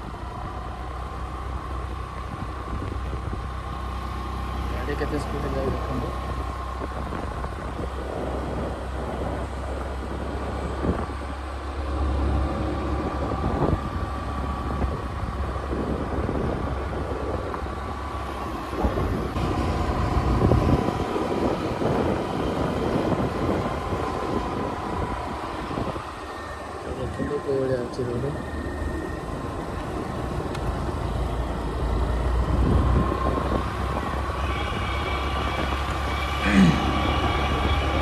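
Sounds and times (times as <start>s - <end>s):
road and tyre noise: 0.0s - 38.0s
wind rumbling on microphone: 0.0s - 38.0s.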